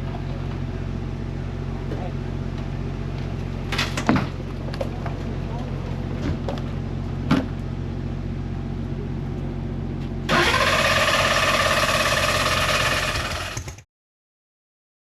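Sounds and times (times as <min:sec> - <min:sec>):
loud steady engine: 0:00.0 - 0:13.8
vehicle engine running low: 0:00.0 - 0:13.8.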